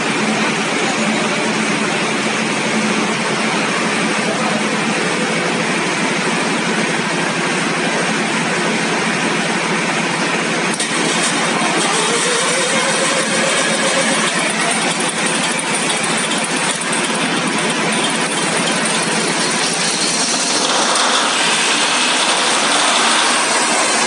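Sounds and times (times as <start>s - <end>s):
engine running loudly: 0.0s - 24.0s.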